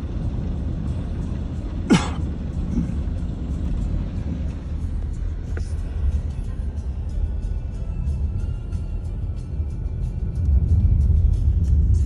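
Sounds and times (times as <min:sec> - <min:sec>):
car driving on flooded road: 0:00.0 - 0:12.0.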